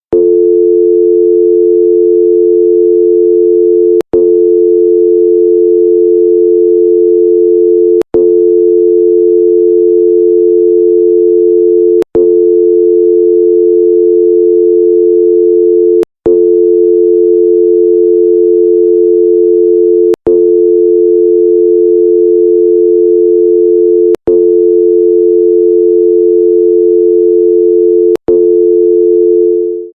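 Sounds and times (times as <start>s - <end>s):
telephone dial tone: 0.1s - 30.0s
telephone line click: 0.2s - 30.0s.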